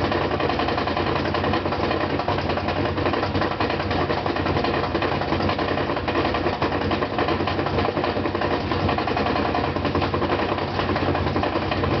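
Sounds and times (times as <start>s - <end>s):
rapid loud knocking: 0.0s - 12.0s
washing machine drum hum: 0.0s - 12.0s.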